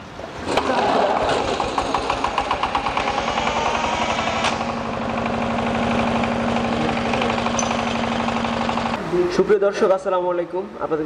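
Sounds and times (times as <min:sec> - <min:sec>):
diesel engine chugging: 0:00.4 - 0:09.4.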